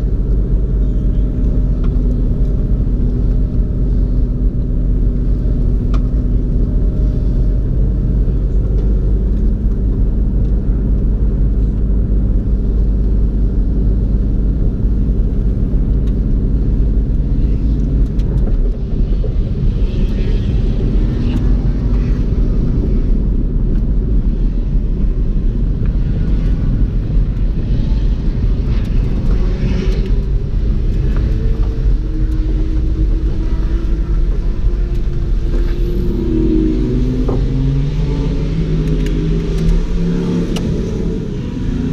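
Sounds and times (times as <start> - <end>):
car engine rumbling: 0.0 - 41.9.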